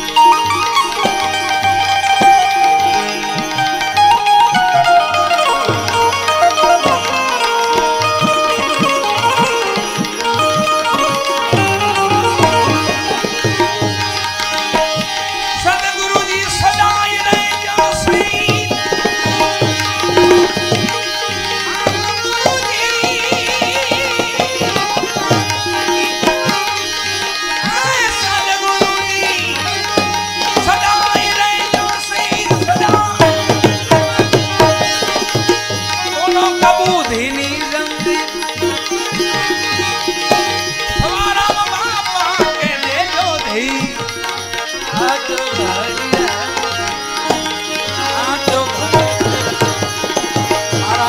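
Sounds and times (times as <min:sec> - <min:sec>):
devotional music: 0:00.0 - 0:51.0
fast tabla drumming: 0:00.0 - 0:51.0.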